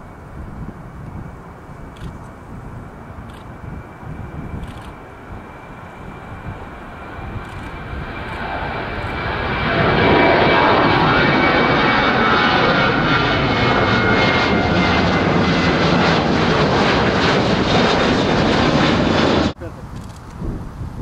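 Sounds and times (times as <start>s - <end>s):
faint high engine whine: 0.0s - 20.3s
jet engines climbing rumble: 0.0s - 21.0s.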